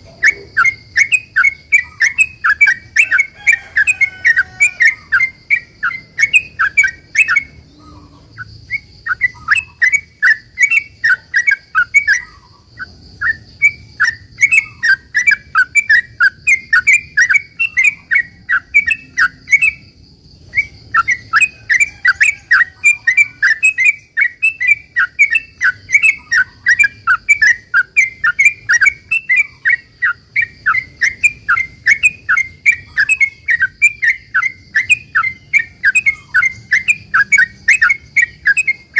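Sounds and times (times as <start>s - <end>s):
bird singing bubbling chirps: 0.0s - 38.9s.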